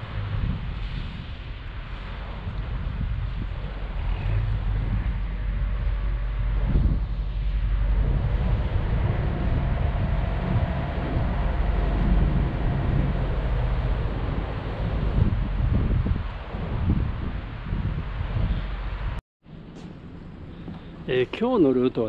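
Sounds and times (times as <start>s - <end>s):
wind buffeting microphone: 0.0s - 19.2s
ferry engine rumble: 0.0s - 22.0s
faint hum: 2.0s - 22.0s.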